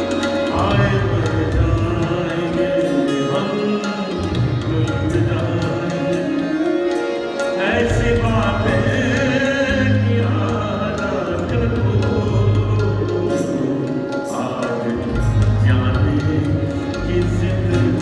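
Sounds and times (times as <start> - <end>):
harmonium playing: 0.0 - 18.0
tabla drumming: 0.0 - 18.0
man singing: 0.3 - 6.8, 7.4 - 18.0.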